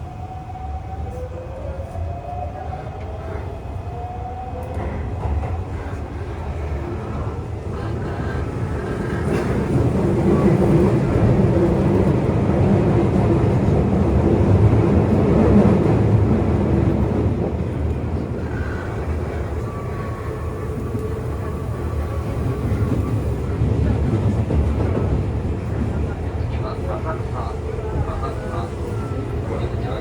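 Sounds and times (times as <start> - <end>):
electric train rumbling on rails: 0.0 - 30.0.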